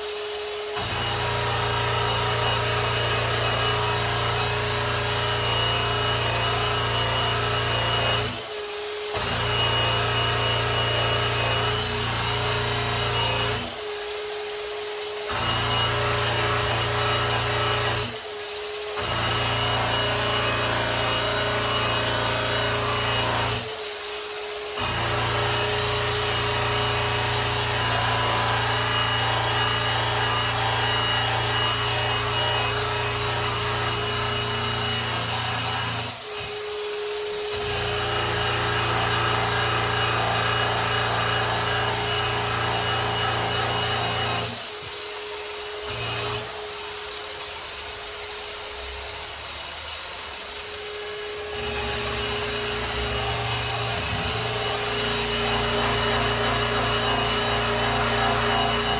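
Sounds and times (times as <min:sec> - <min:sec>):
electric polisher whirring: 0:00.0 - 0:58.9.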